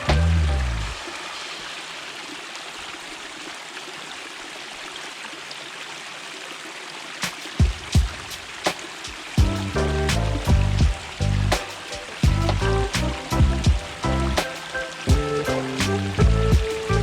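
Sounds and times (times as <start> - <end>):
waterfall running over rocks: 0.0 - 17.0.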